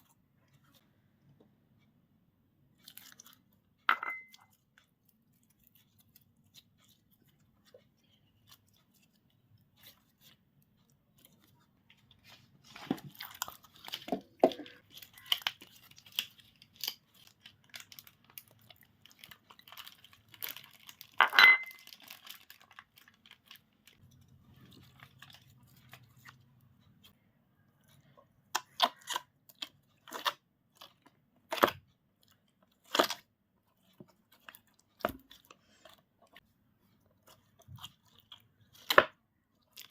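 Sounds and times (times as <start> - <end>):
slime squishing: 4.3 - 39.9.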